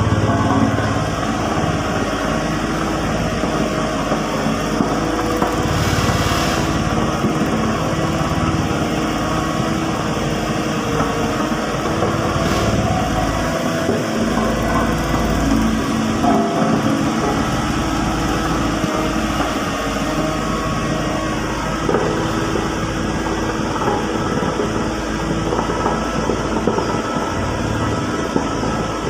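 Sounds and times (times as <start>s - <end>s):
road roller diesel engine: 0.0s - 29.0s
roller drum working over rock: 0.0s - 29.0s
rush of higher noise: 0.0s - 29.0s.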